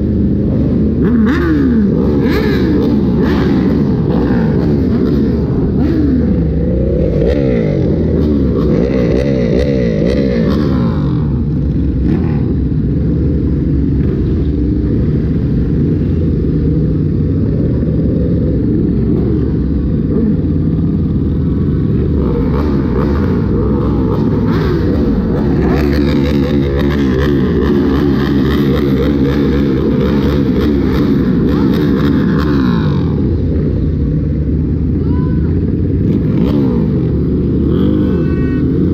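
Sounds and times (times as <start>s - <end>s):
higher noisy engine layer: 0.0s - 38.9s
many motorbike engines revving: 0.0s - 38.9s.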